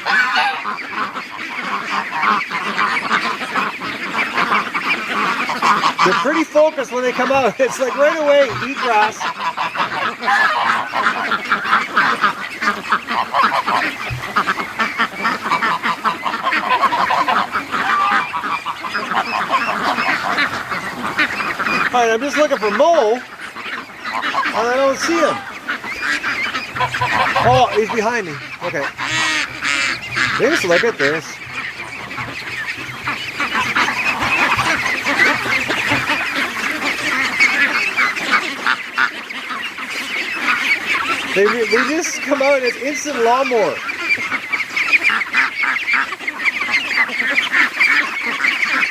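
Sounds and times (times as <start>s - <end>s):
ducks quacking: 0.0s - 48.9s
geese honking: 0.0s - 48.9s.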